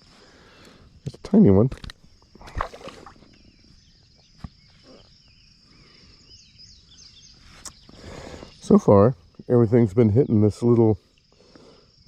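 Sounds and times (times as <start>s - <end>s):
birds chirping: 0.0s - 12.0s
high insect drone: 0.0s - 12.0s.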